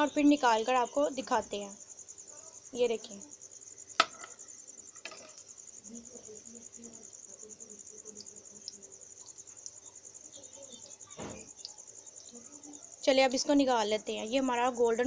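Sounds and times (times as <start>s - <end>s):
food frying in oil: 0.0s - 15.0s.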